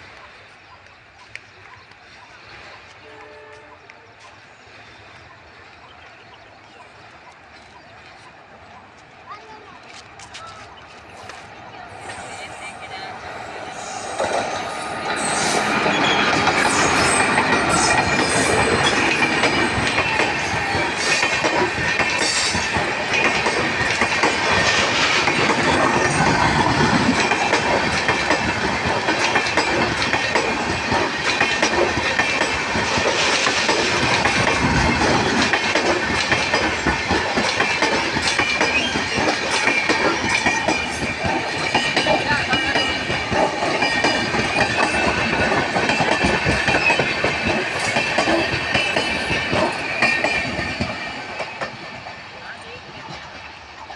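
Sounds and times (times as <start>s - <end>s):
train wheels clattering: 8.9s - 53.9s.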